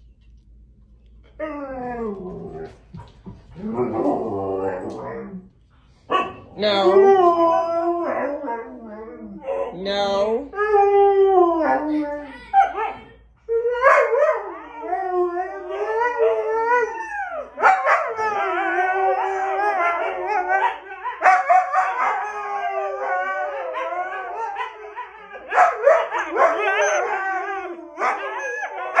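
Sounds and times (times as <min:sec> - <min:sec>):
dog howling: 0:01.3 - 0:09.9, 0:10.5 - 0:29.0.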